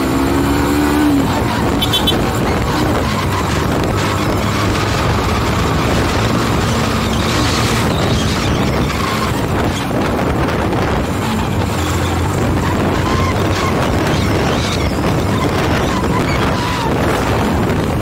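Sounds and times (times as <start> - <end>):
road noise: 0.0 - 18.0
vehicle engine droning: 0.0 - 18.0
wind noise: 0.0 - 18.0.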